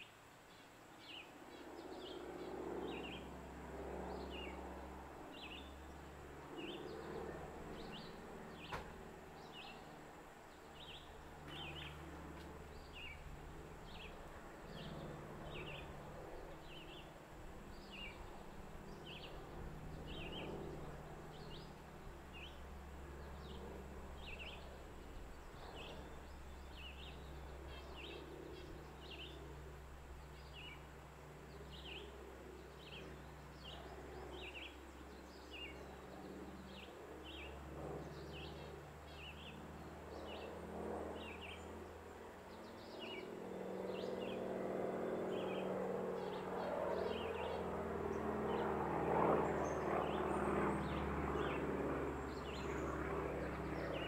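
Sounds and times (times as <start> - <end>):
songbirds chirping: 0.0 - 54.0
steady low hum: 1.8 - 54.0.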